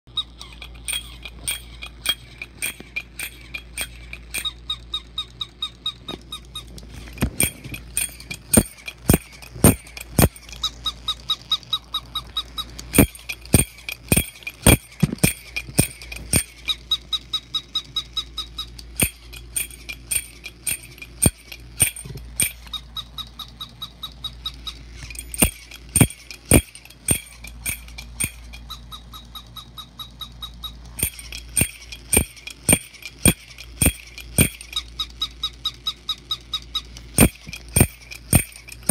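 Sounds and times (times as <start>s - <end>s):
squeaky electronic chatter: 0.1s - 38.9s.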